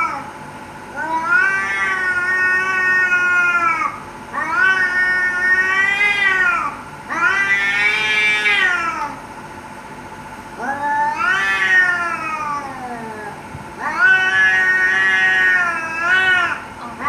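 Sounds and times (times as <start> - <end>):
cat yowling: 0.0 - 0.3, 1.0 - 9.2, 10.6 - 17.0.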